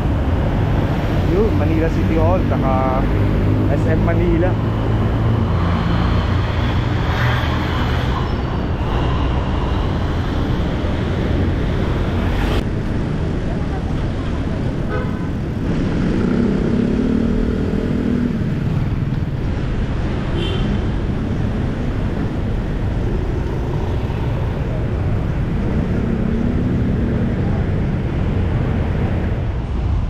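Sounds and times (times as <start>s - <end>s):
car and motorcycle engines humming: 0.0s - 30.0s
city traffic: 0.0s - 30.0s
wind rushing over microphone: 0.0s - 30.0s.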